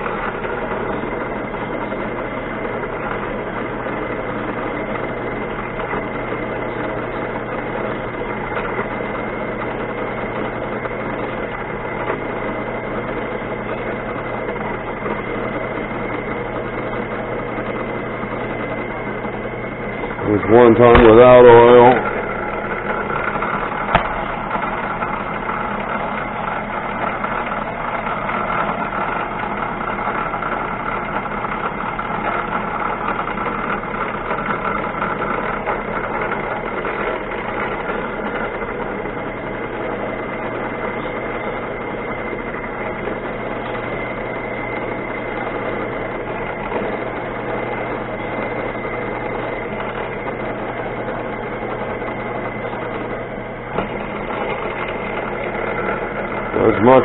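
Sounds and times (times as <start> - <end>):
drill bit cutting metal: 0.0 - 57.0
machine motor running: 0.0 - 57.0.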